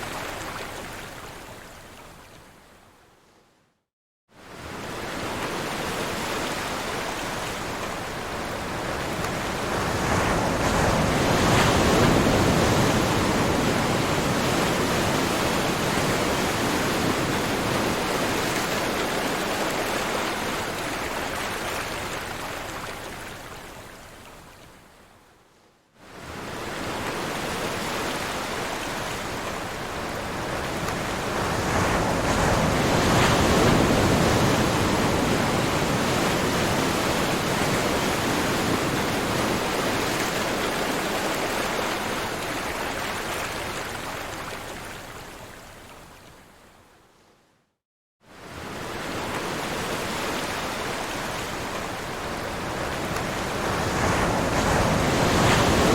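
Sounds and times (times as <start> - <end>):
ocean waves washing on shore: 4.4 - 24.7, 26.0 - 46.8, 48.3 - 55.9.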